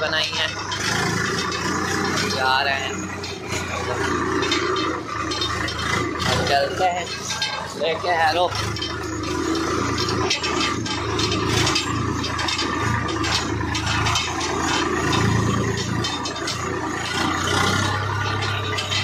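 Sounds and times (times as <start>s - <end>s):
diesel tractor engine droning: 0.0s - 19.0s
loose metal parts rattling: 0.0s - 19.0s.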